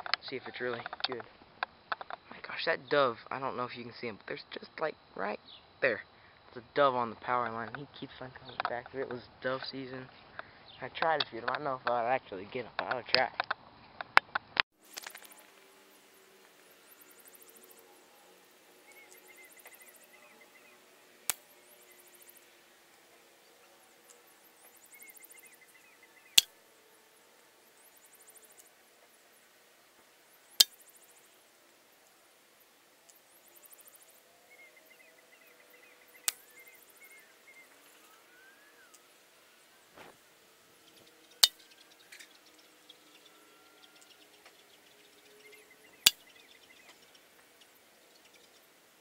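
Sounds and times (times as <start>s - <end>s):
insects chirring: 0.0s - 13.0s, 13.7s - 49.0s.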